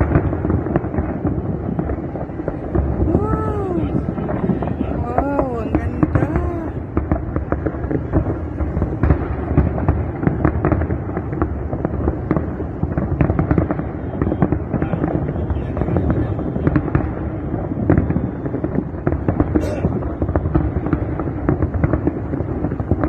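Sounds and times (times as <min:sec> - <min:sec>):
continuous low rumble: 0:00.0 - 0:23.0
fireworks bursting: 0:00.0 - 0:23.0.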